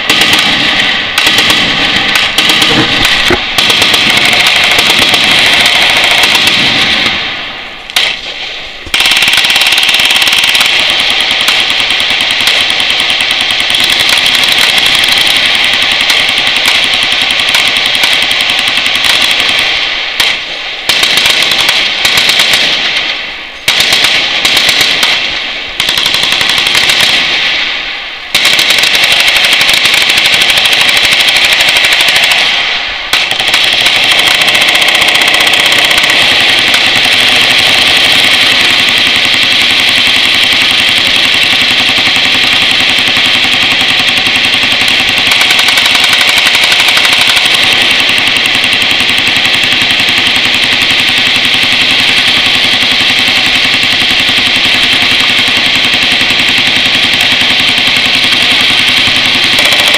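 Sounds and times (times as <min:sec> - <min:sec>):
machine gun bursts: 0:00.0 - 0:07.2, 0:08.8 - 0:19.7, 0:20.9 - 0:22.9, 0:25.8 - 0:27.2, 0:28.3 - 0:59.9.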